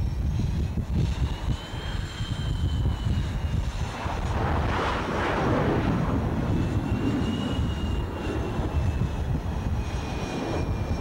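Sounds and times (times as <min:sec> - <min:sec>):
high-pitched jet whine: 0:00.0 - 0:11.0
jet engine noise: 0:00.0 - 0:11.0.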